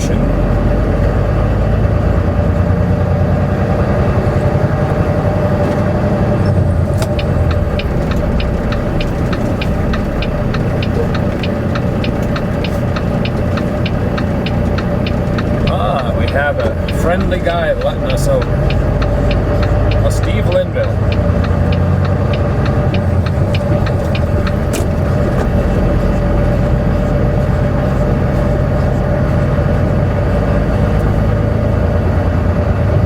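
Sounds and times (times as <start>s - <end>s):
turn signal ticking: 0.0s - 32.9s
truck diesel engine running: 0.0s - 33.0s.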